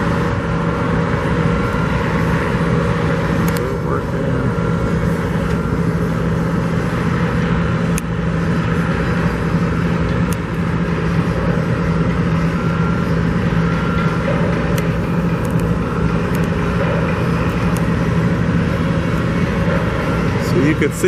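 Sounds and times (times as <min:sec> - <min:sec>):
heavy machinery engine drone: 0:00.0 - 0:21.0.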